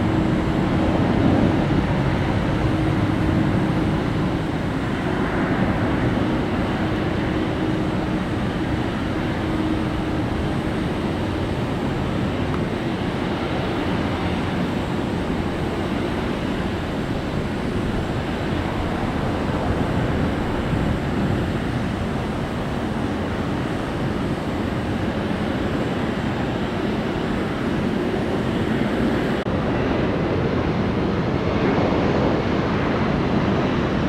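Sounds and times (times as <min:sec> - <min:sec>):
jet engine rumble: 0:00.0 - 0:34.0.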